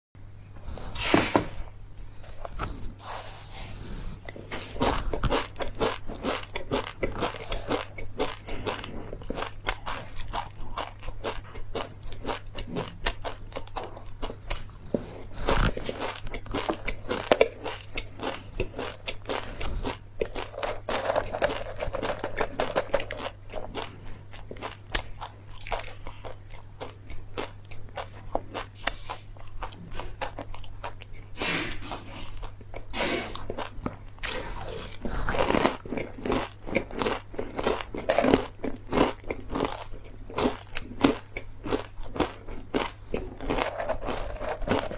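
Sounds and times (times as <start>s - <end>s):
chewing crunchy food: 2.2s - 44.9s.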